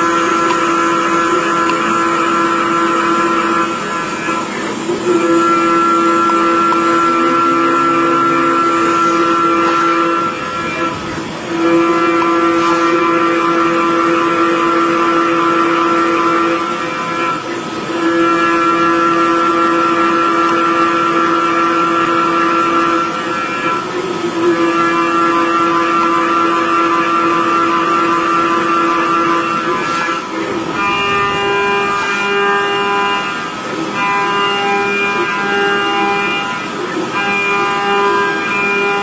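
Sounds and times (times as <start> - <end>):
lathe machine whine: 0.0 - 39.0.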